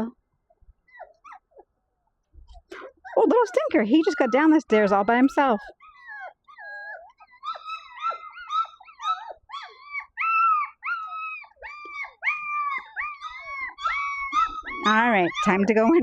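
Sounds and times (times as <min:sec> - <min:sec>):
puppies whining and yelping: 0:00.8 - 0:01.8, 0:02.4 - 0:16.0.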